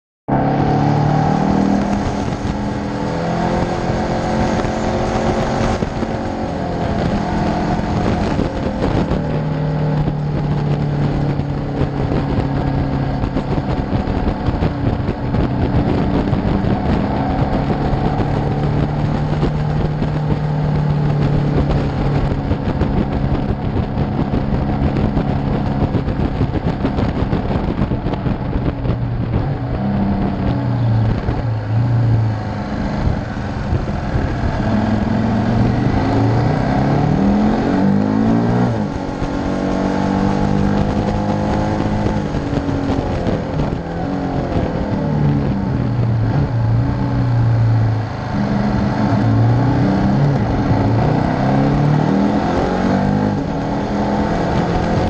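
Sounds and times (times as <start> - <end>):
motorcycle engine at speed: 0.3 - 55.0
wind rushing: 0.3 - 55.0.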